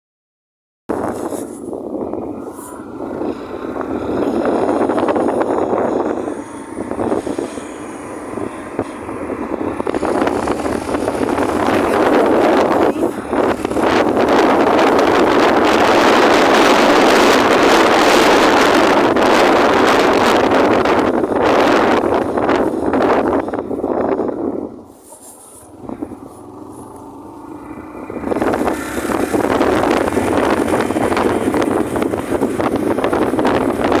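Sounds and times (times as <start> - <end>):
wind rushing over microphone: 0.9 - 34.0
motorcycle engine running: 1.0 - 34.0.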